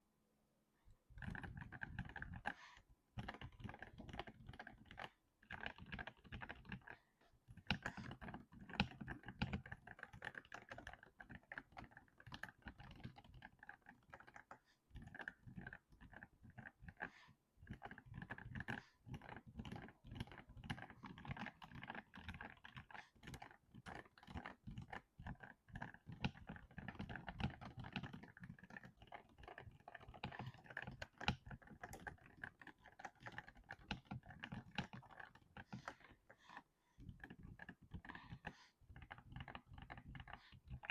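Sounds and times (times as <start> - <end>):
mechanical keyboard typing: 1.2 - 2.6, 3.2 - 40.9.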